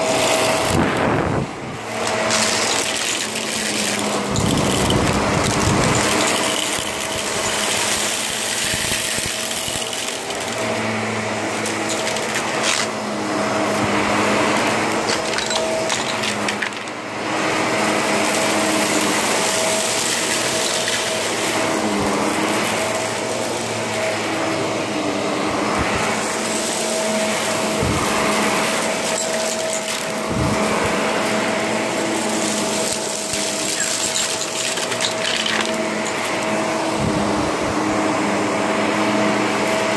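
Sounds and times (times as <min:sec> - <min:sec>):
debris clicks in vacuum: 0:00.0 - 0:39.9
vacuum cleaner motor whine: 0:00.0 - 0:39.9.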